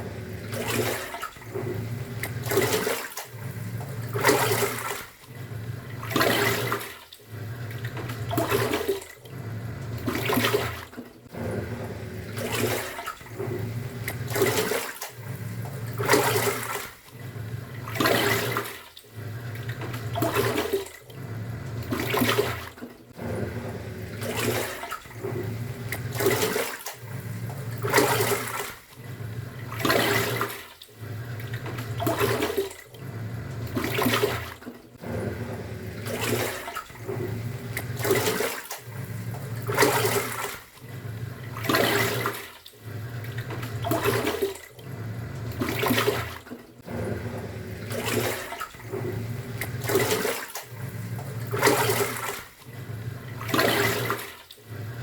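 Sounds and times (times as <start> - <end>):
washing machine motor: 0.0 - 55.0
water sloshing in tub: 0.0 - 55.0.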